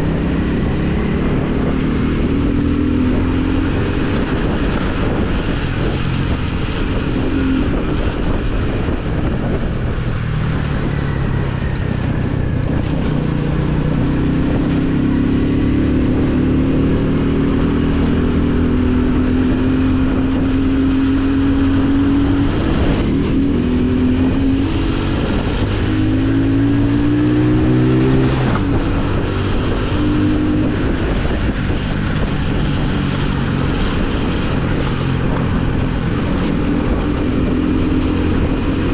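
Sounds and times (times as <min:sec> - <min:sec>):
motorcycle engine accelerating: 0:00.0 - 0:38.9
wind rumble on microphone: 0:00.0 - 0:38.9.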